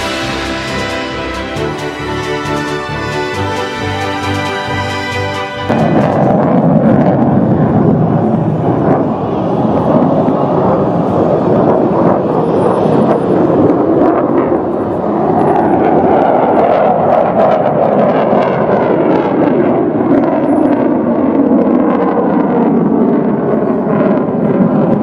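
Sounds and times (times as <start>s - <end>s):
fighter jet engine roaring overhead: 0.0s - 25.0s.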